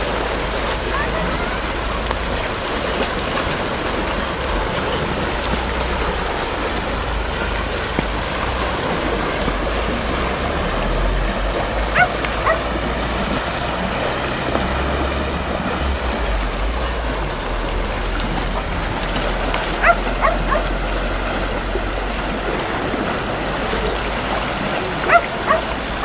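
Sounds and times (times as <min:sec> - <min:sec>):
waves washing on rocky shore: 0:00.0 - 0:26.0
wind rumbling on microphone: 0:00.0 - 0:26.0.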